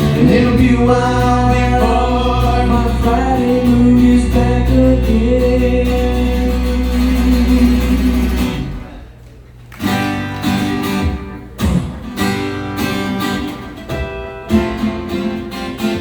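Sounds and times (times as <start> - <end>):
strummed acoustic guitar: 0.0 - 9.0, 9.8 - 16.0.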